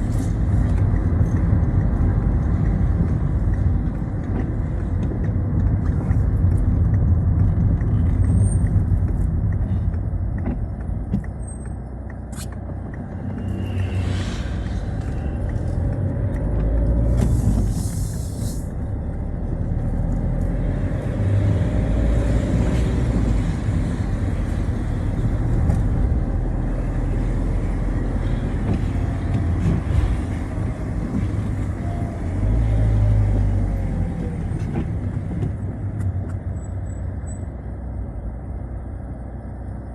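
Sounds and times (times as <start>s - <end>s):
tyre noise on wet road: 0.0s - 37.0s
car engine and road rumble: 0.0s - 39.9s.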